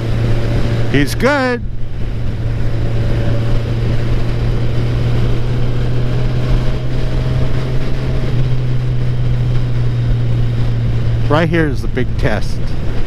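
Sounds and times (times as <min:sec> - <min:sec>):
motorcycle engine droning: 0:00.0 - 0:13.0
wind on microphone: 0:00.0 - 0:13.0.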